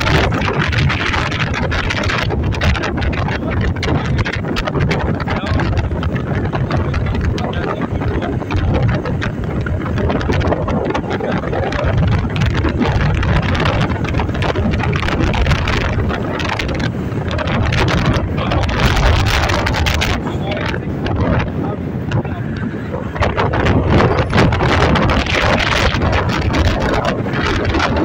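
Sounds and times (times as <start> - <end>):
street and traffic noise: 0.0 - 28.0
wind rumbling on microphone: 0.0 - 28.0.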